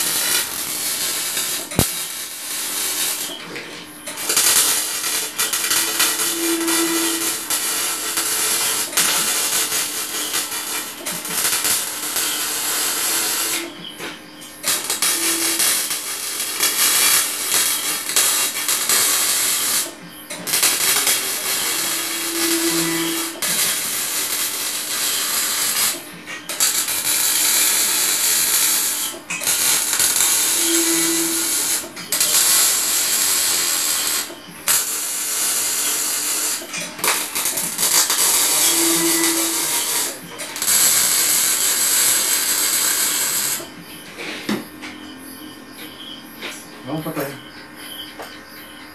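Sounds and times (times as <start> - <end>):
arc welding crackling hiss: 0.0 - 3.4, 4.1 - 13.7, 14.6 - 43.8.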